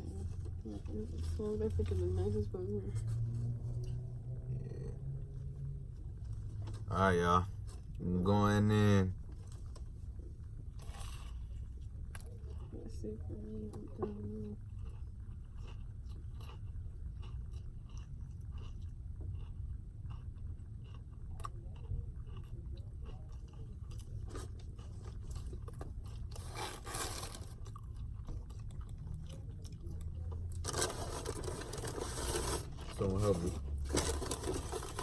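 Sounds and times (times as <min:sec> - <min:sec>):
steady low hum: 0:00.0 - 0:35.0
person chewing and crunching food: 0:03.1 - 0:35.0.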